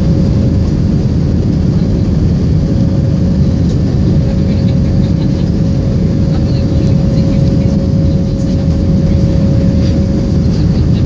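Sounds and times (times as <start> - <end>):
jet engines and rushing air: 0.0 - 11.0
mid-pitched hum: 0.0 - 11.0.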